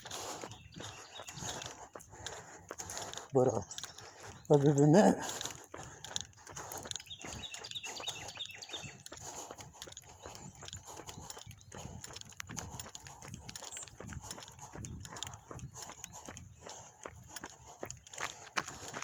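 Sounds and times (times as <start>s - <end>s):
heavy breathing through mask: 0.0s - 19.0s.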